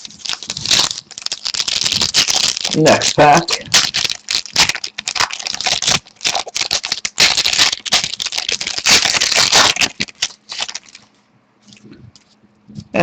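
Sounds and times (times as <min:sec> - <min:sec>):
wrapper tearing and crinkling: 0:00.0 - 0:11.1.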